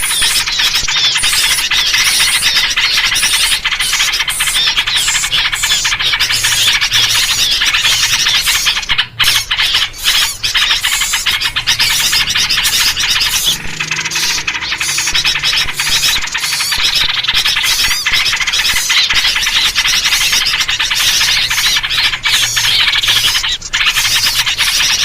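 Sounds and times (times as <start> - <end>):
bulbul calls: 0.0 - 25.0
small birds chattering and squeaking: 0.0 - 25.0.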